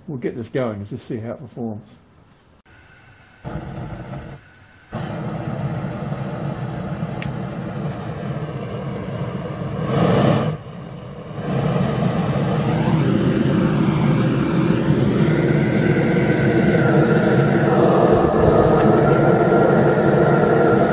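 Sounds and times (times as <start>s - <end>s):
gas burner roaring: 2.7s - 20.9s.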